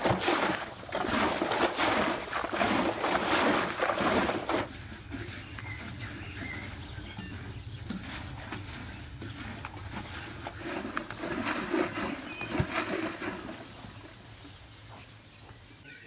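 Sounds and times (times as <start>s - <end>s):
liquid sloshing in wooden churn: 0.0s - 15.0s.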